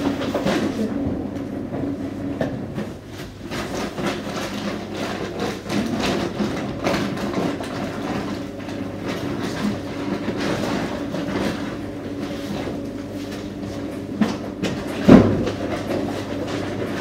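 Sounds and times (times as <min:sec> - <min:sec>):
knocks of tumbling laundry: 0:00.0 - 0:17.0
washing machine motor hum: 0:00.0 - 0:17.0.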